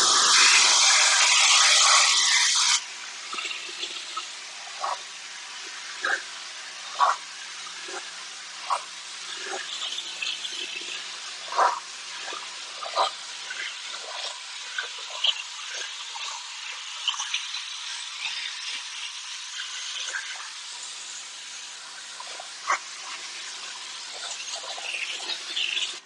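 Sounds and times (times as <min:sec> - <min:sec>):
power washer spraying: 0:00.0 - 0:26.0.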